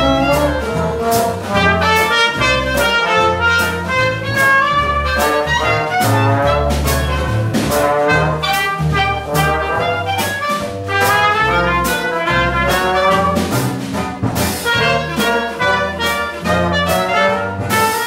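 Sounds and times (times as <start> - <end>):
clarinet: 0.0 - 13.6, 14.6 - 18.0
drums and cymbals: 0.0 - 18.0
trombone: 0.0 - 18.0
trumpet: 0.0 - 18.0
walking bass guitar: 0.0 - 18.0.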